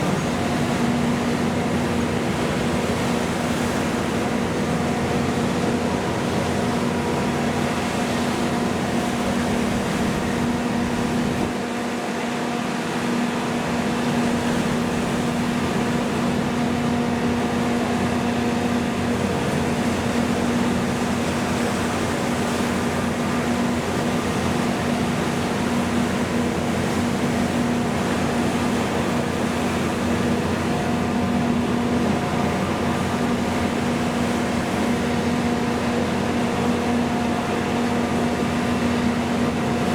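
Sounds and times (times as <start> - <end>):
boat engines droning: 0.0 - 39.9.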